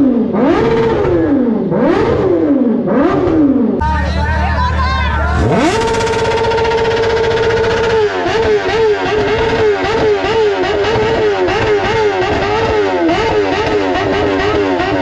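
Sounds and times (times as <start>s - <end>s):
motorcycle engine revving: 0.0s - 3.8s, 5.3s - 15.0s.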